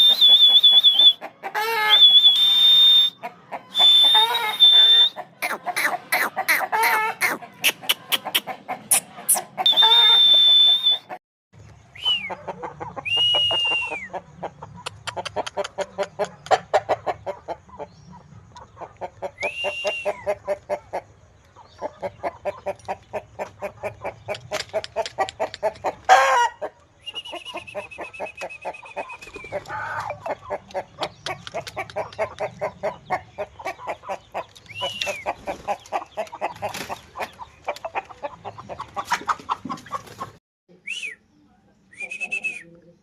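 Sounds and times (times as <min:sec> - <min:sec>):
chickens clucking: 0:00.0 - 0:10.3, 0:11.0 - 0:40.4
high drawn-out chicken calls: 0:00.0 - 0:11.2, 0:11.9 - 0:40.4.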